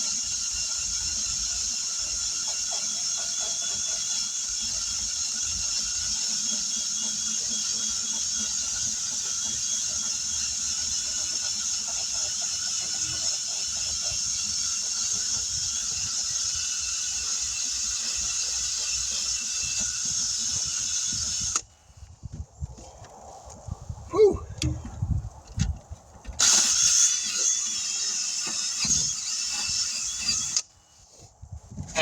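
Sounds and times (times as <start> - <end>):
buffer wheel grinding rubber: 0.0 - 21.7, 24.6 - 32.0.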